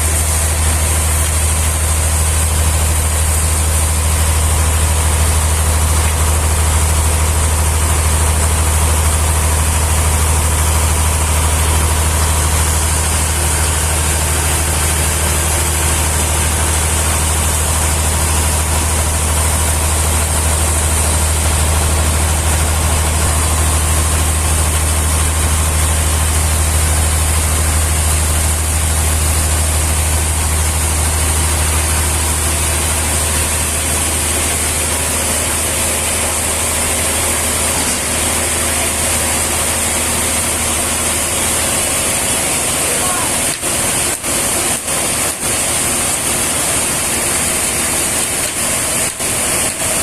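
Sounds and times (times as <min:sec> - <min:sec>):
heavy engine low drone: 0:00.0 - 0:50.0.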